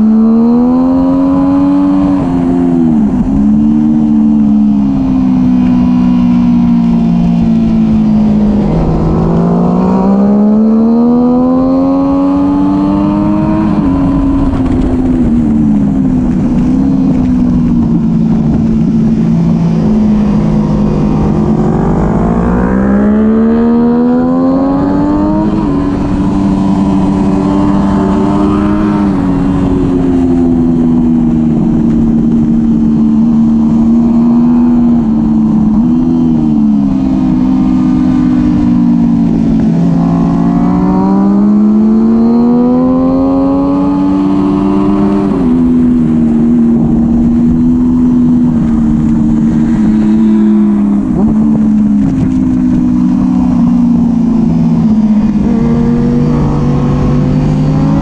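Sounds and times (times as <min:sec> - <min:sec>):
motorcycle engine revving: 0:00.0 - 0:58.0
wind rush over microphone: 0:00.0 - 0:58.0.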